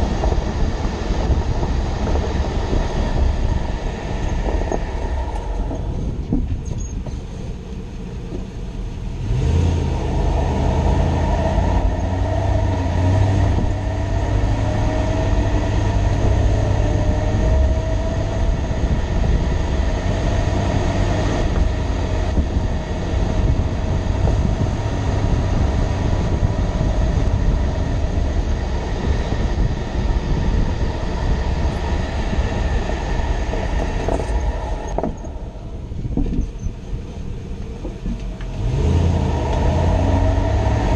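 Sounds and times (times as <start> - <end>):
truck engine rumble: 0.0 - 40.9.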